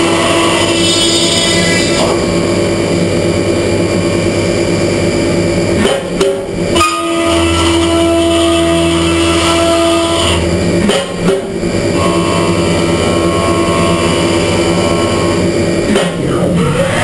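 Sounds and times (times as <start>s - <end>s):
milling machine cutting whine: 0.0s - 17.0s.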